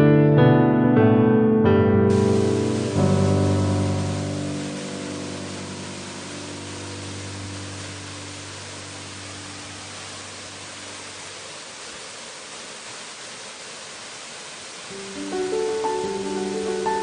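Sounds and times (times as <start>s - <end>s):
water hissing: 2.1s - 17.0s.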